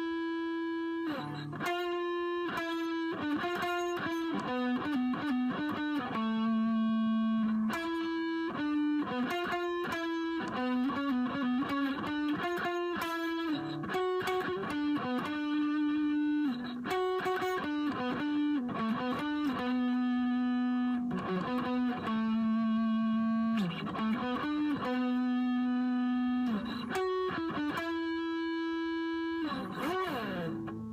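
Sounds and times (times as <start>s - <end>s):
electric guitar melody: 0.0s - 30.9s.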